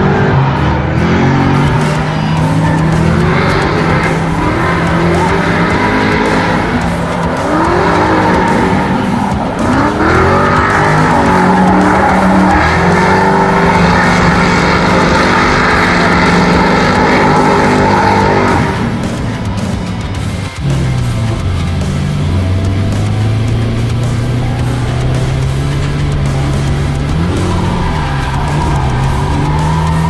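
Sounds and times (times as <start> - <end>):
car engines revving hard: 0.0 - 30.0
tires squealing and skidding: 0.0 - 30.0.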